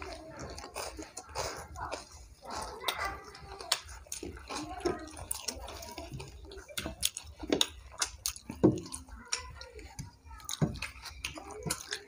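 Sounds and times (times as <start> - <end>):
chewing and mouth smacks: 0.0 - 12.0.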